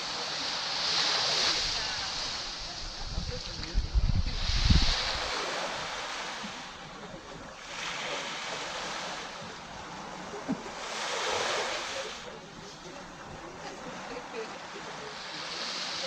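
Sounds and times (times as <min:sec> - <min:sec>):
small waves washing onto sand: 0:00.0 - 0:16.0.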